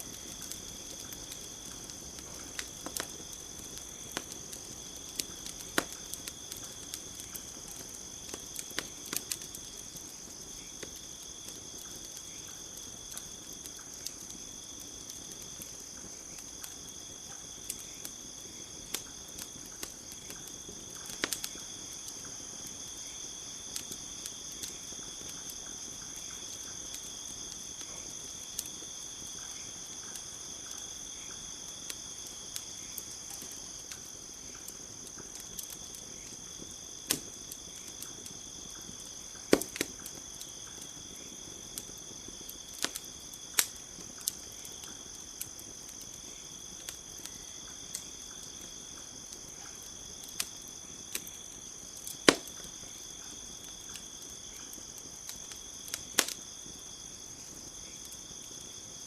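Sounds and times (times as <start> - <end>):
campfire crackling and popping: 0.0 - 59.0
crickets chirping: 0.0 - 59.0.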